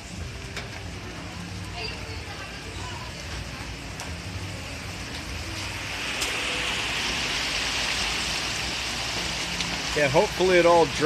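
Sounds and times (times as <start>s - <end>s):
tyres spraying water: 1.2s - 11.0s.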